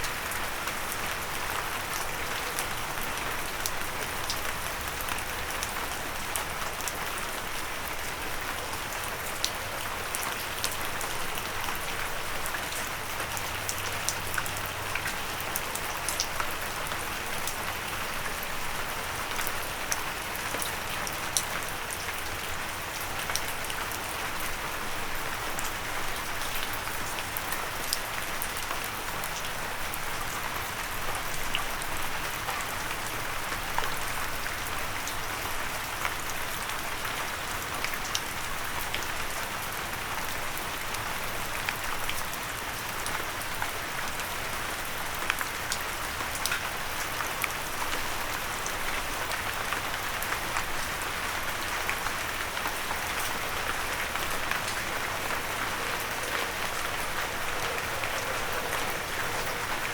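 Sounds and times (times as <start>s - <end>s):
rain ticking on a windowsill: 0.0s - 59.9s.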